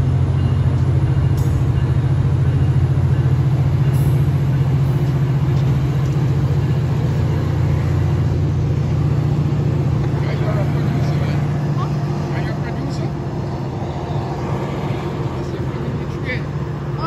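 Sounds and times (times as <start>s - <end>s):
diesel locomotive idling drone: 0.0s - 17.0s.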